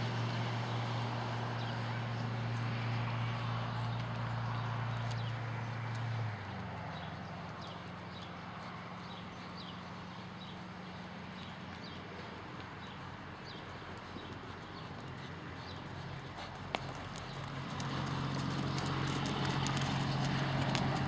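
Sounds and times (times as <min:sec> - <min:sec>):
horse hooves clip-clopping: 0:00.0 - 0:21.0.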